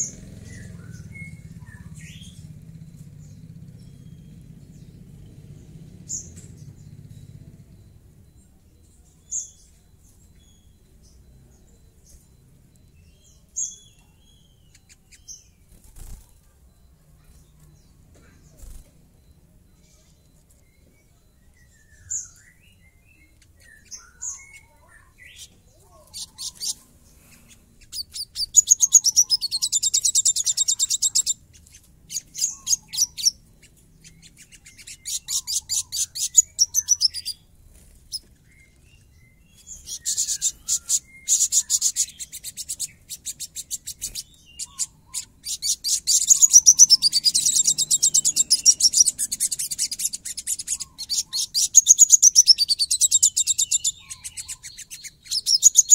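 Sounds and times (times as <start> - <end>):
bird chirps: 0.0 - 55.9
bird singing rapid high trills: 0.0 - 55.9.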